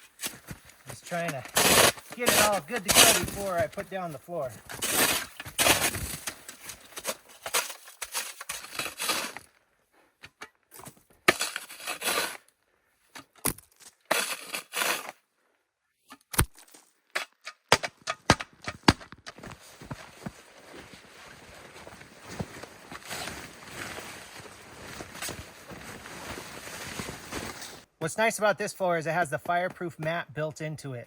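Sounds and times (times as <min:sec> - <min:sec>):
ground scraping and crunching: 0:00.0 - 0:09.6, 0:10.3 - 0:15.3, 0:16.1 - 0:27.9.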